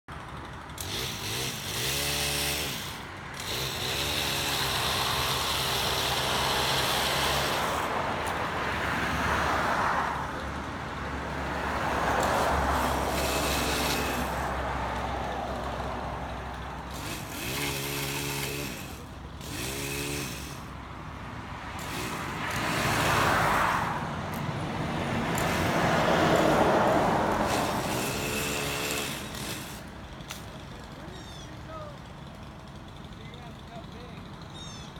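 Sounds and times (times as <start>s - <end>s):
vehicles passing: 0.1s - 34.9s.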